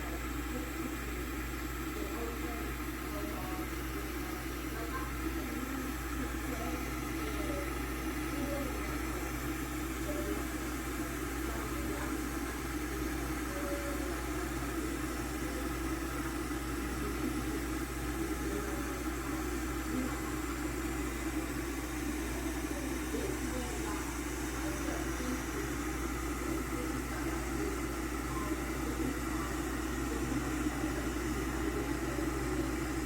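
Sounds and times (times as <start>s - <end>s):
electric kettle heating water: 0.0s - 33.0s.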